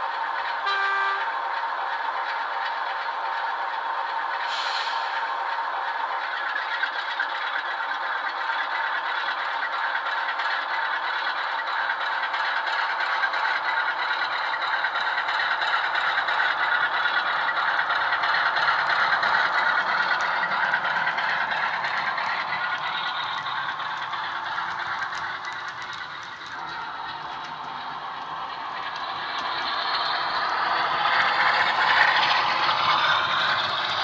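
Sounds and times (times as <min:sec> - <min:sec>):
model train diesel engine sound: 0:00.0 - 0:34.0.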